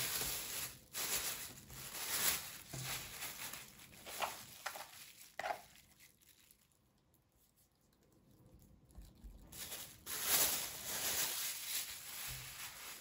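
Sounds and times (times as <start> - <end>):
plastic bag crinkling: 0.0 - 7.7, 8.5 - 13.0.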